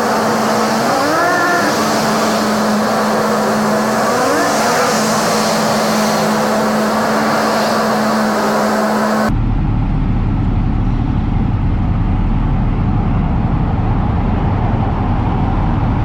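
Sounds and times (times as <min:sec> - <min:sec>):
motorcycle engine accelerating: 0:00.0 - 0:16.0
wind noise: 0:00.0 - 0:16.0.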